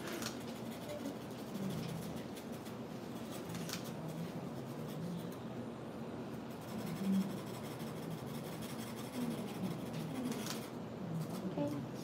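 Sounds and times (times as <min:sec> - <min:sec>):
stylus scratching wax stencil: 0:00.0 - 0:05.4, 0:06.5 - 0:11.4.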